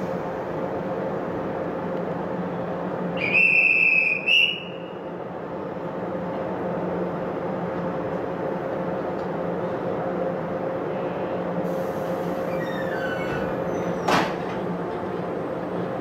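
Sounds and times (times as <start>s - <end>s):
railway rumble: 0.0s - 16.0s.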